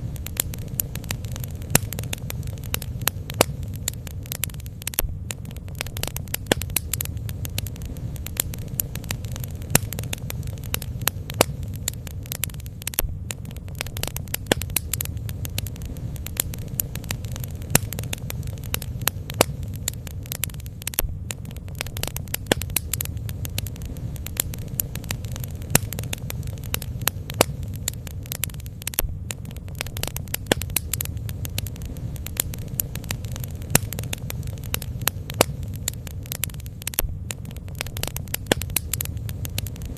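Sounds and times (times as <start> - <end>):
sharp pops of fire: 0.0 - 39.9
steady low rumble: 0.0 - 39.9
wood crackling: 0.0 - 39.9.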